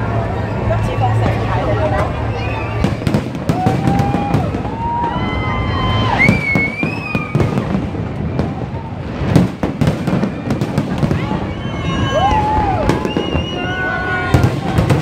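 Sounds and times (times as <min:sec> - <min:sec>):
fireworks bangs and crackles: 0:00.0 - 0:15.0
high sliding firework whistles: 0:02.1 - 0:07.7, 0:08.4 - 0:15.0.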